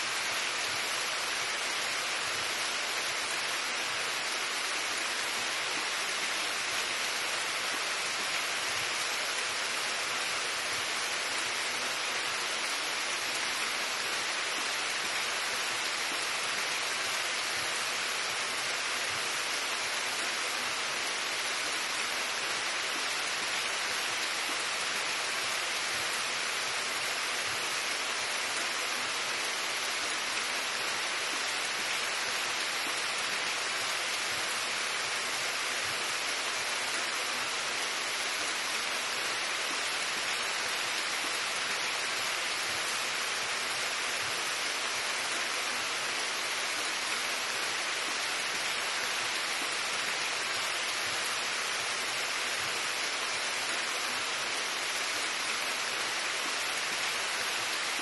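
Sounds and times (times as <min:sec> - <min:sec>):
rain on leaves: 0:00.0 - 0:58.0.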